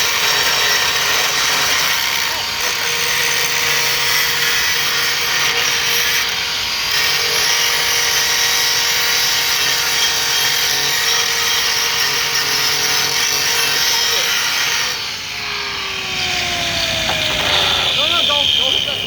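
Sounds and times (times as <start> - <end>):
electric grinder grinding steel: 0.0 - 19.0.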